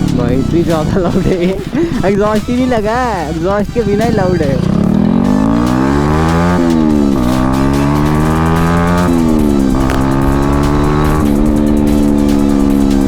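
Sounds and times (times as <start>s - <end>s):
loud motorcycle engine accelerating: 0.0s - 13.0s.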